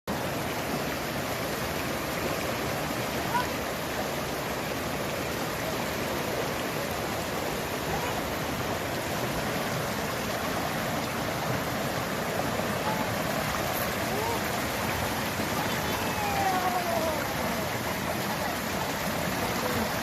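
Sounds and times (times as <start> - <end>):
waterfall rushing over rocks: 0.1 - 20.0.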